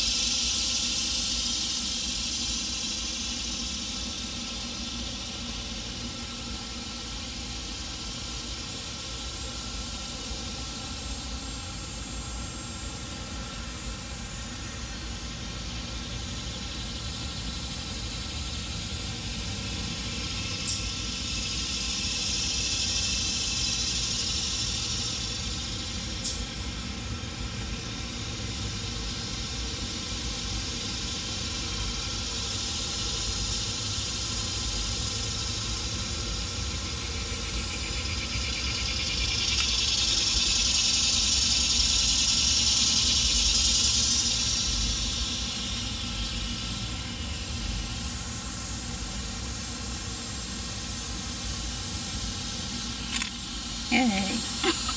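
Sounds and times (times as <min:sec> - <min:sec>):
hiss: 0:00.0 - 0:54.9.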